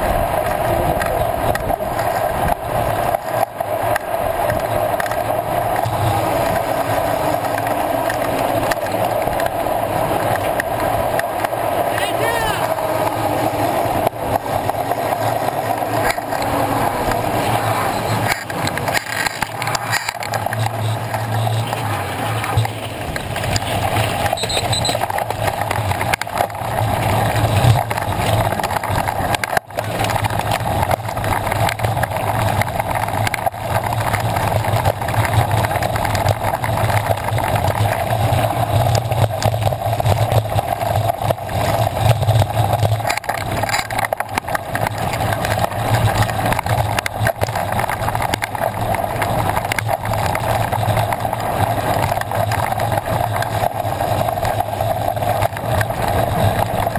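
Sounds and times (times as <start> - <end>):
bike rattles and knocks: 0.0 - 56.9
bike tyres rumbling on gravel: 0.0 - 56.9
wind: 0.0 - 56.9.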